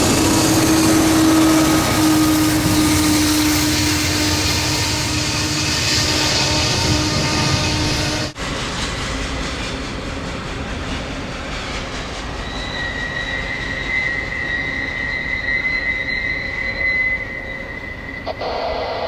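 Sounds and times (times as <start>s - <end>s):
steel wheel squeal: 0.0s - 8.4s, 11.5s - 19.0s
train wheels on rails: 0.0s - 19.0s.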